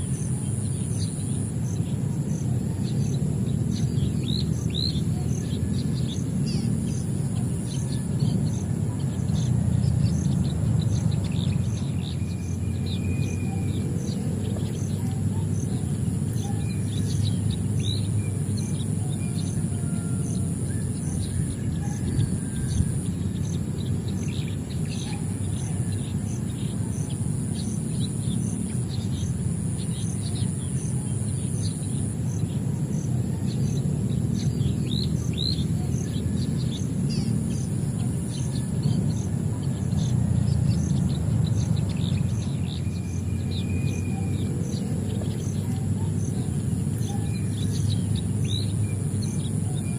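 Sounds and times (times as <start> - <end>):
birds chirping: 0.0 - 49.9
high insect drone: 0.0 - 49.9.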